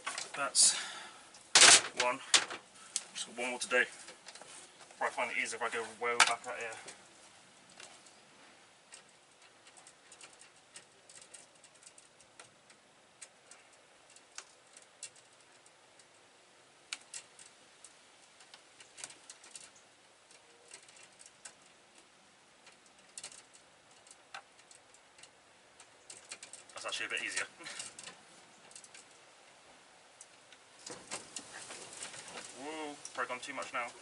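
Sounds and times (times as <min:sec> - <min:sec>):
low steady hiss: 0:00.0 - 0:34.0.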